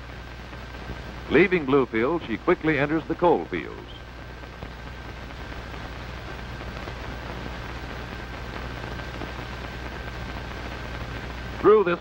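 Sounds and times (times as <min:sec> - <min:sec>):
faint high whine: 0:00.0 - 0:12.0
old film hiss and crackle: 0:00.0 - 0:12.0.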